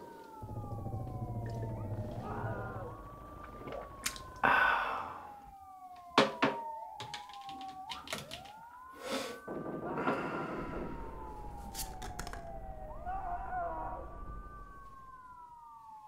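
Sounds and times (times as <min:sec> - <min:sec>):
distant sirens wailing: 0:00.0 - 0:16.0.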